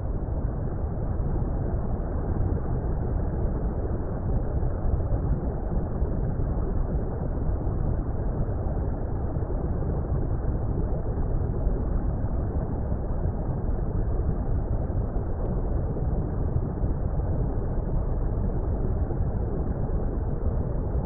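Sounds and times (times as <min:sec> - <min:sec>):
deep water rumble: 0:00.0 - 0:21.0.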